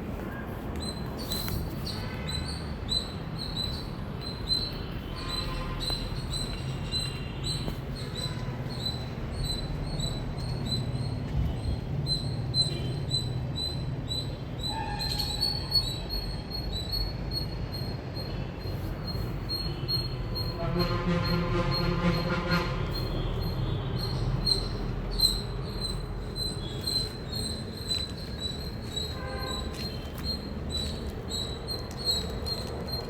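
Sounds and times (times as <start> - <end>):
squirrel chirping: 0.9 - 18.3, 23.4 - 33.0.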